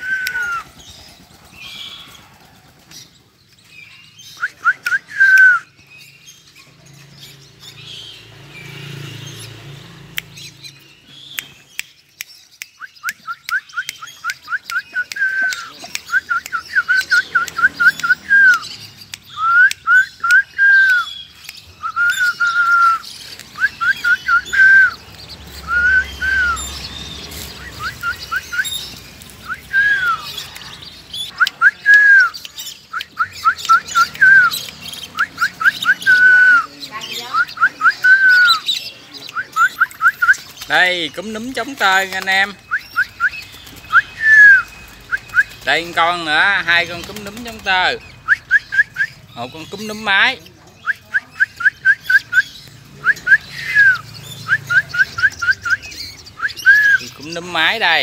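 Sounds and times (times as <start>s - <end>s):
bird calling sharp notes: 0.0s - 2.4s, 7.7s - 58.0s.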